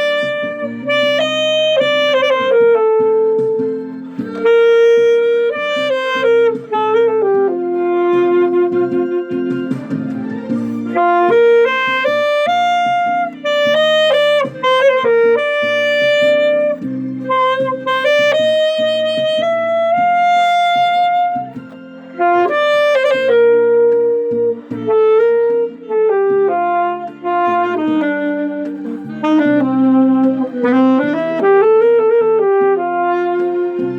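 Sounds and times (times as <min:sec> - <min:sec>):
alto saxophone slow melody: 0:00.0 - 0:33.9
keyboard backing track: 0:00.0 - 0:33.9.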